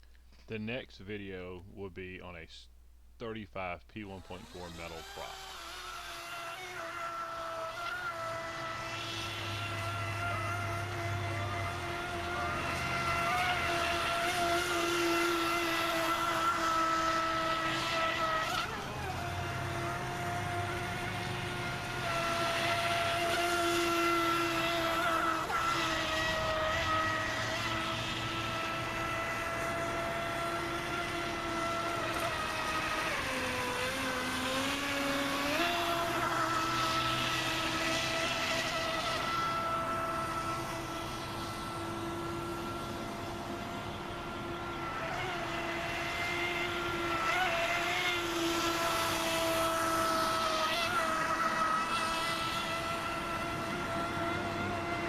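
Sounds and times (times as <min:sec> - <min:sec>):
electric boat motor whine: 0:04.0 - 0:55.0.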